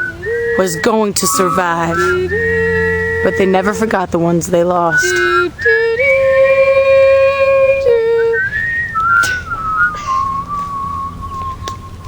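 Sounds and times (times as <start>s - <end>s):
person whistling a slow melody: 0.0s - 4.0s, 4.8s - 12.0s.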